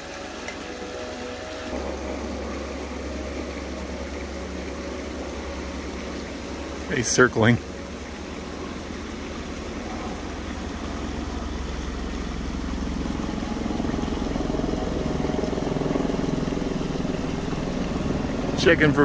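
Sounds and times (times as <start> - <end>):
helicopter rotor beating: 0.0 - 19.0.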